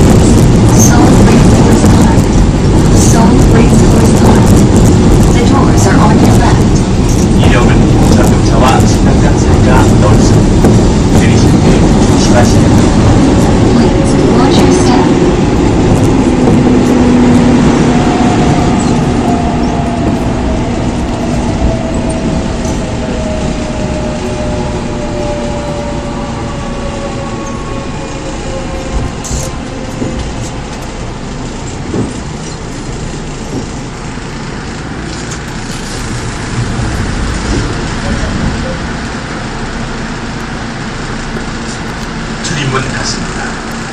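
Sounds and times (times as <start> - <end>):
train running rumble: 0.0 - 43.9.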